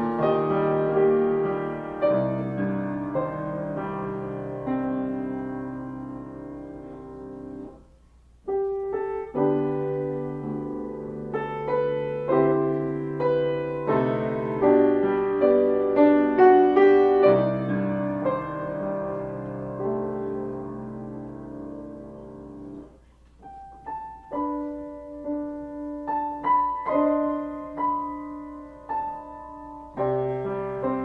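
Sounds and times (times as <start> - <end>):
solo piano playing: 0.0 - 31.0.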